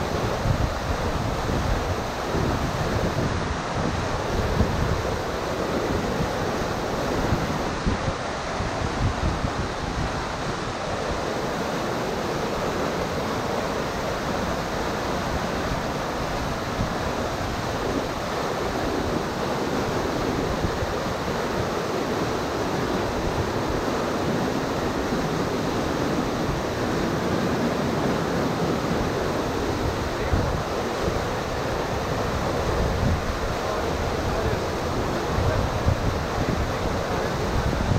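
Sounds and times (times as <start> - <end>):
river rapids roaring: 0.0 - 37.9.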